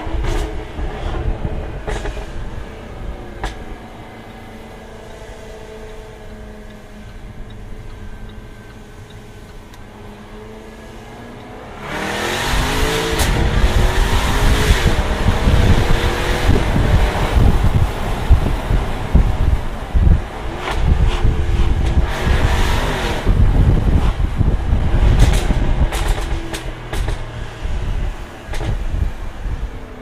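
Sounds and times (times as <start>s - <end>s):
exhaust crack: 0.0s - 10.5s, 11.3s - 29.7s
car engine accelerating hard: 0.0s - 30.0s.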